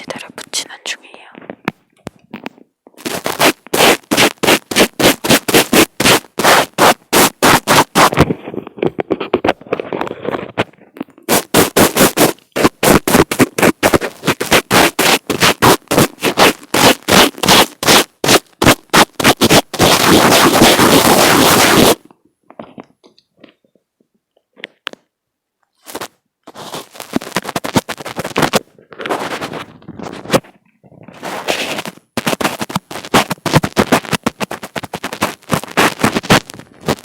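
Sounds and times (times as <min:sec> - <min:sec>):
fingers scratching on microphone: 0:00.0 - 0:23.8, 0:25.8 - 0:37.0.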